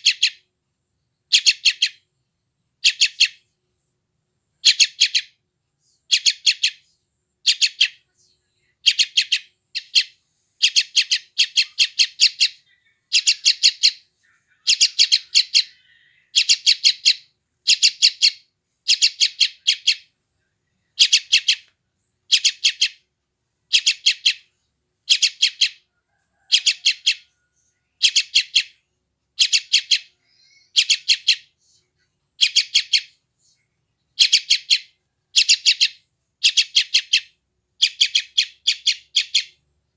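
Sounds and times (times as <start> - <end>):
bird chick chirping: 0.0 - 0.4, 1.3 - 2.1, 2.8 - 3.4, 4.6 - 6.8, 7.4 - 8.1, 8.8 - 20.1, 20.9 - 23.1, 23.7 - 28.8, 29.4 - 31.6, 32.4 - 33.2, 34.1 - 39.6.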